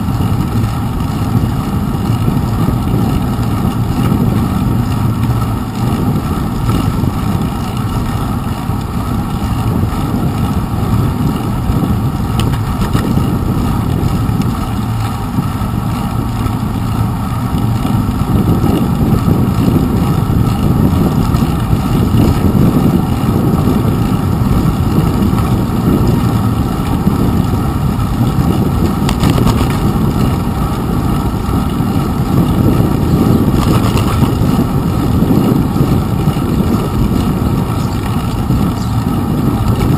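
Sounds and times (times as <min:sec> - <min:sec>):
bicycle road rumble: 0:00.0 - 0:39.9
wind noise: 0:00.0 - 0:39.9.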